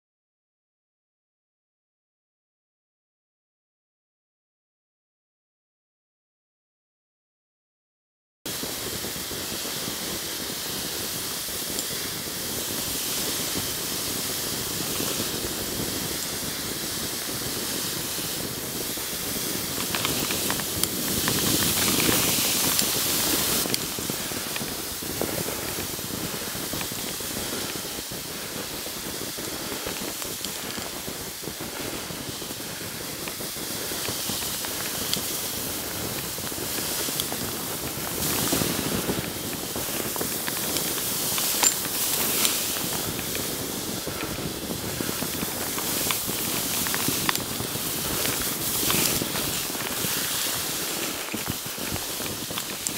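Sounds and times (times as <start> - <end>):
skis hissing over snow: 8.5 - 52.9.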